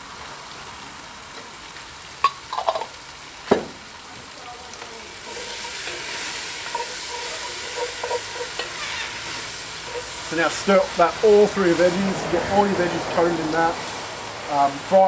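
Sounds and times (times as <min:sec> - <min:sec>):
vegetables sizzling in pot: 0:00.0 - 0:15.0.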